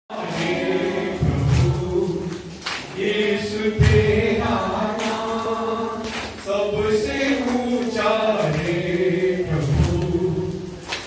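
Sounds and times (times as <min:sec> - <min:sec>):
congregation singing a hymn: 0:00.1 - 0:11.0.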